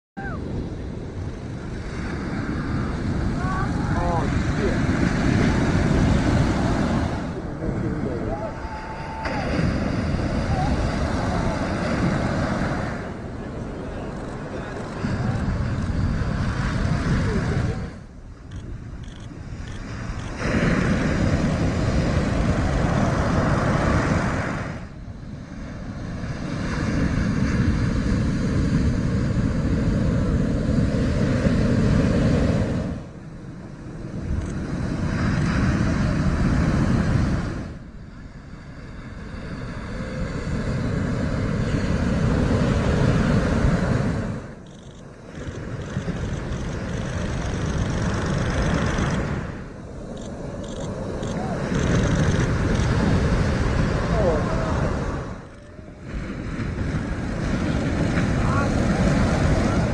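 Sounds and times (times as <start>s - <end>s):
waves crashing: 0.2s - 59.9s.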